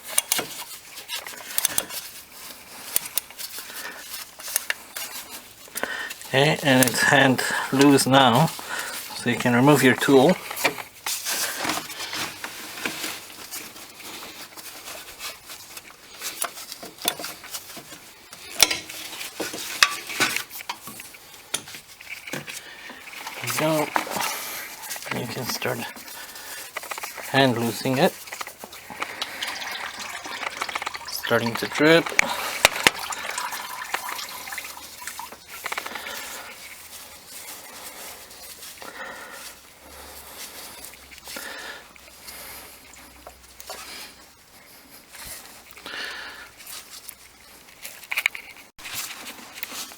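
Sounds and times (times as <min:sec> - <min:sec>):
scraping and rustling: 0:00.0 - 0:49.9
oil trickling and dripping: 0:00.1 - 0:16.8, 0:20.6 - 0:44.8.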